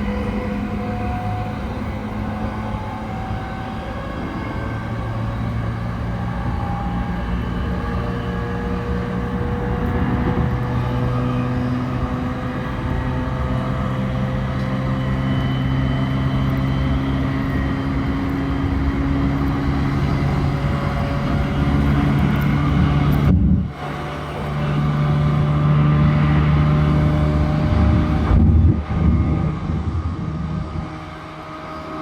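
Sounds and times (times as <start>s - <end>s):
electric train rumble and hum: 0.0s - 32.0s.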